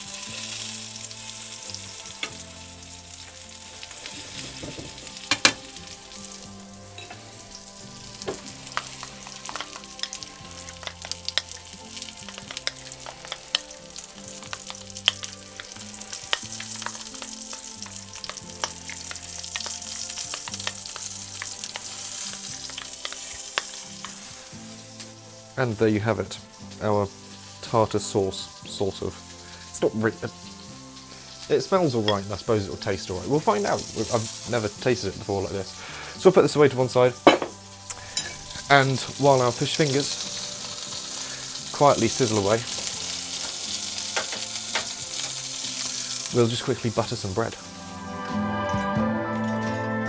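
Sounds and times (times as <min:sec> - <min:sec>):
food sizzling in a frying pan: 0:00.0 - 0:49.8.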